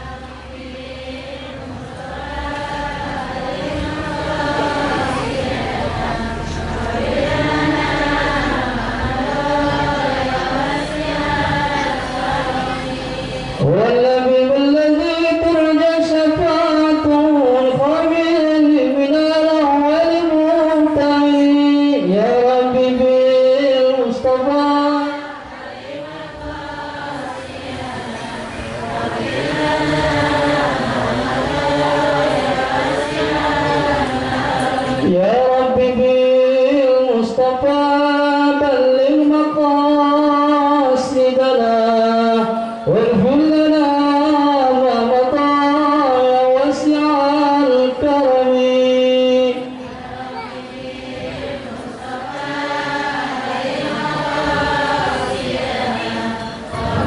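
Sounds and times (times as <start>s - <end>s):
many voices singing in unison: 0.0s - 57.0s.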